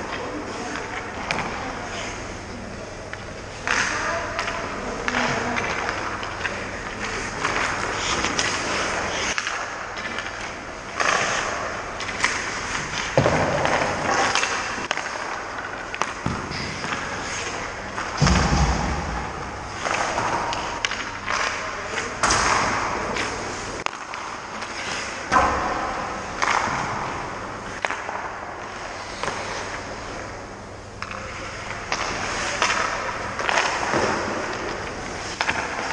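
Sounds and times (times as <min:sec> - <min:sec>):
pucks hitting pads and boards: 0:00.0 - 0:02.2, 0:03.0 - 0:35.9
skates scraping ice: 0:03.5 - 0:18.4, 0:19.0 - 0:30.4, 0:31.2 - 0:35.9.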